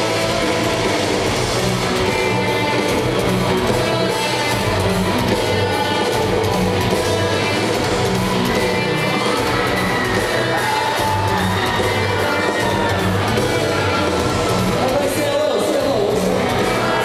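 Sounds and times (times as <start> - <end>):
live rock band playing: 0.0 - 17.0
strummed electric guitars: 0.0 - 17.0.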